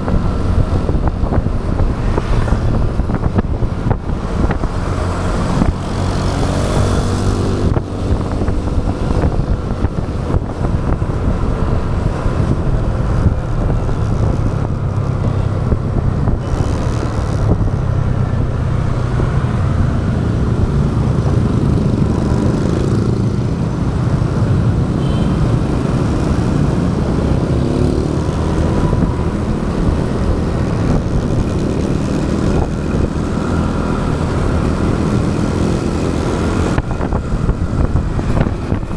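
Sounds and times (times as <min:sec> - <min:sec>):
motorcycle engine running: 0:00.0 - 0:38.9
road and traffic noise: 0:00.0 - 0:38.9.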